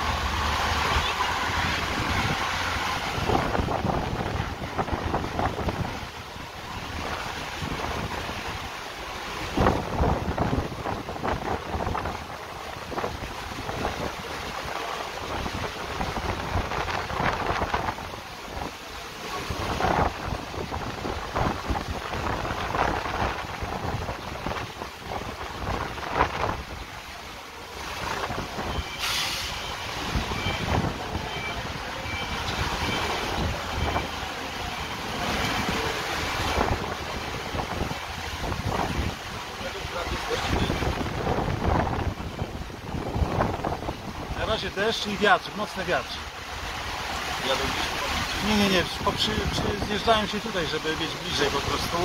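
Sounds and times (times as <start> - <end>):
gusting wind buffeting microphone: 0.0 - 44.9, 45.9 - 52.0
heavy rain: 0.0 - 52.0.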